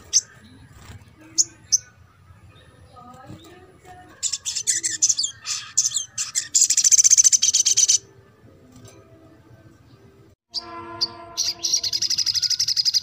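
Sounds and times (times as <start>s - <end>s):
bird chirping and trilling: 0.0s - 9.0s, 9.9s - 13.0s.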